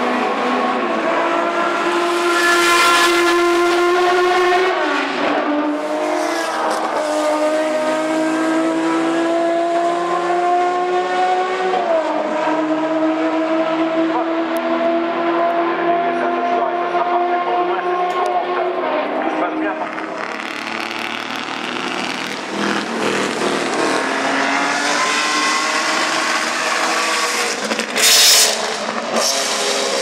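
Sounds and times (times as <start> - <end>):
racing engine accelerating hard: 0.0 - 30.0.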